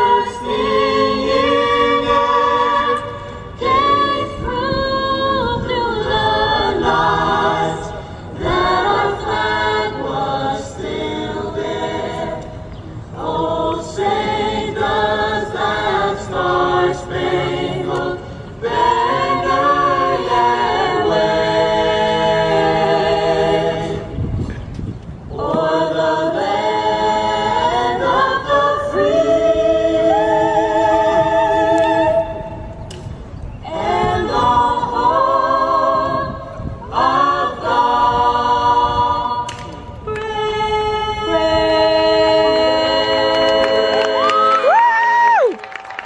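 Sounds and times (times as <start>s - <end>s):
choir singing over loudspeakers: 0.0s - 44.7s.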